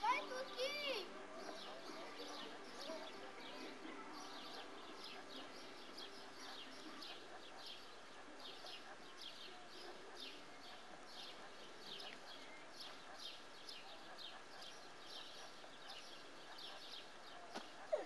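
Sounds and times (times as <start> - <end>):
small songbirds chirping: 0.0 - 18.0.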